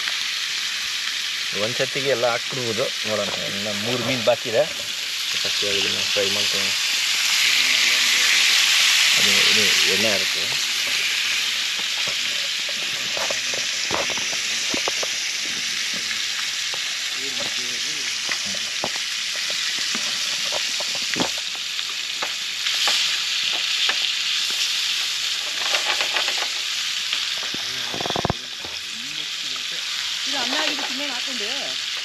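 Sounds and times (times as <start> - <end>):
fish sizzling in hot oil: 0.0 - 32.0
oil crackling and popping: 0.0 - 32.0.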